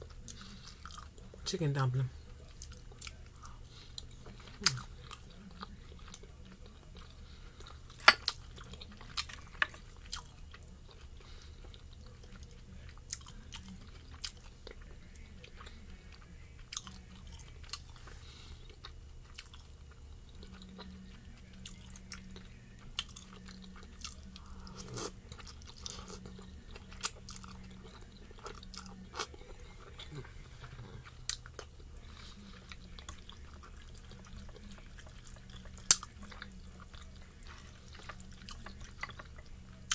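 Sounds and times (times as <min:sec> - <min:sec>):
steady low hum: 0:00.0 - 0:39.9
chewing and mouth smacking: 0:02.4 - 0:39.9.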